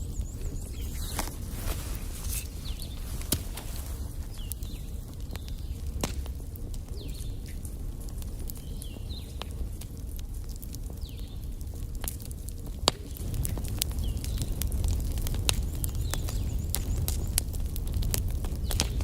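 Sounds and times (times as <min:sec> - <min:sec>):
logs crackling and snapping: 0:00.0 - 0:19.0.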